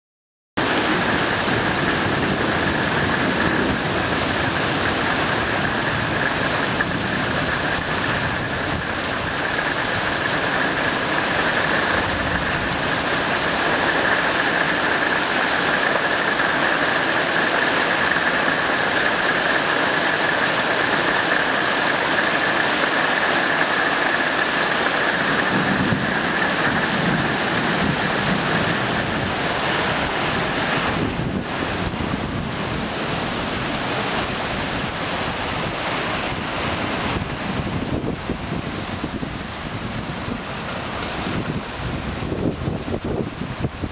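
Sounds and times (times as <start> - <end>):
heavy rain pouring: 0.6 - 43.9
thunder rumbling: 0.6 - 43.9.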